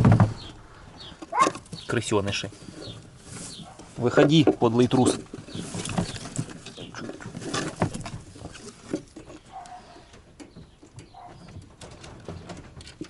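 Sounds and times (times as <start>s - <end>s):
rabbit scratching in hutch: 1.3s - 13.0s.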